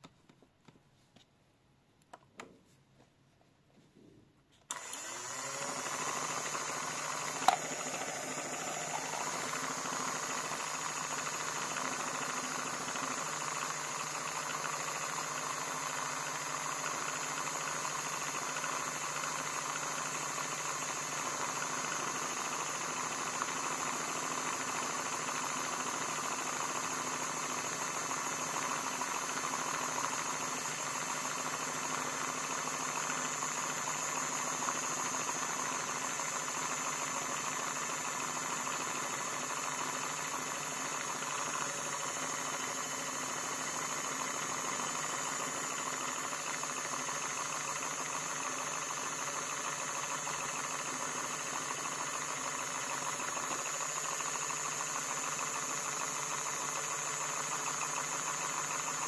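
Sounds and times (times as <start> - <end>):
laundry machine humming: 4.7 - 59.0.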